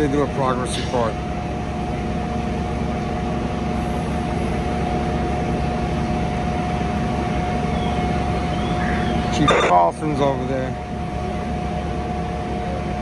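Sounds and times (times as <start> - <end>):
constant high whine: 0.0 - 13.0
diesel engines rumbling: 0.0 - 13.0.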